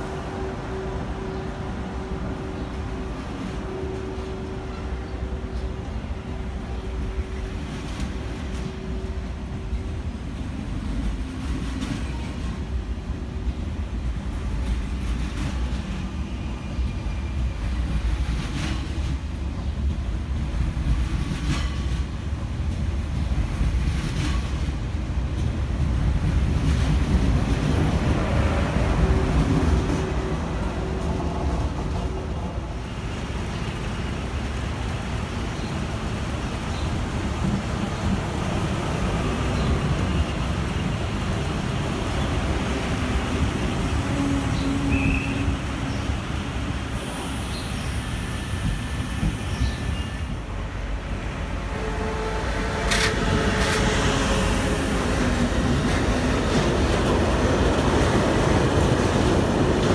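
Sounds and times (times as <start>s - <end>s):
train rolling past: 0.0s - 59.9s.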